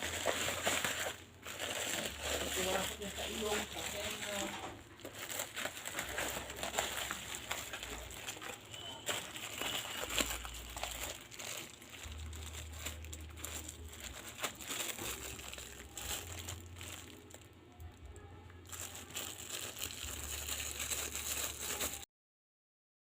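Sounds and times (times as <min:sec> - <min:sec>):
packaging crinkling and rustling: 0:00.0 - 0:17.6, 0:18.6 - 0:22.1.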